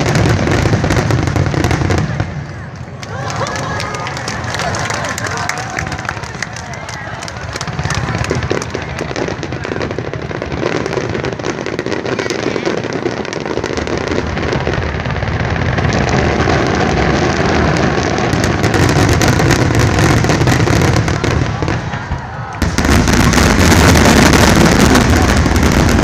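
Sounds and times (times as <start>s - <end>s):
fireworks cracking and banging: 0.0s - 26.0s.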